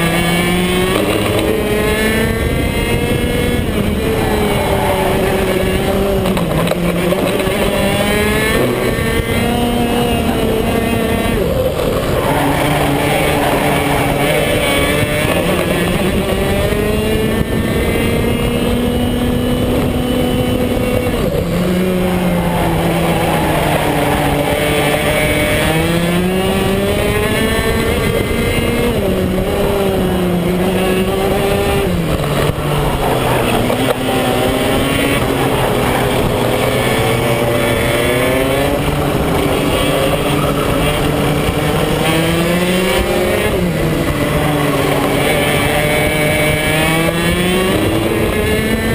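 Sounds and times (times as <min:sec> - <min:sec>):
kart engine racing: 0:00.0 - 0:48.9.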